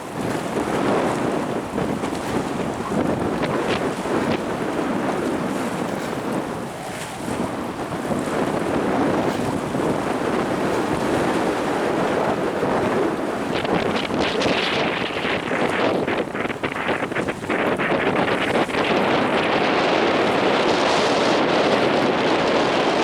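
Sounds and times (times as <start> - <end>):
sea waves breaking: 0.0 - 23.0
strong wind buffeting microphone: 0.0 - 23.0.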